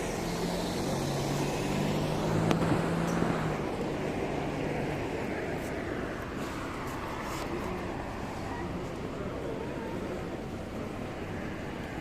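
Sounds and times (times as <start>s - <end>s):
street noise: 0.0s - 12.0s
vehicle engine hum: 0.0s - 12.0s.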